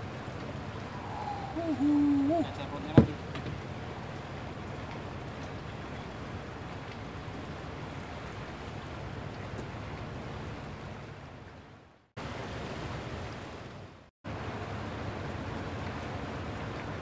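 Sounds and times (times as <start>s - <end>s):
wind and sea water rushing: 0.0s - 17.0s.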